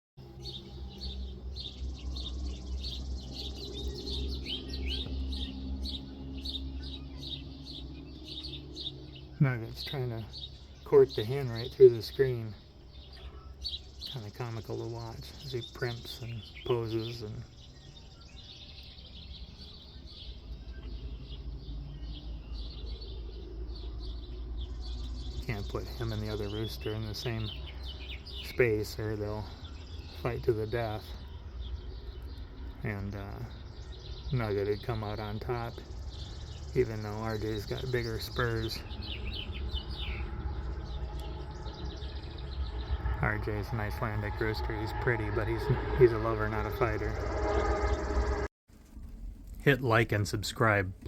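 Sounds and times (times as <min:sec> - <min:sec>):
small birds chirping: 0:00.2 - 0:48.5
low hum: 0:00.2 - 0:51.0
low steady rumble: 0:00.2 - 0:51.0.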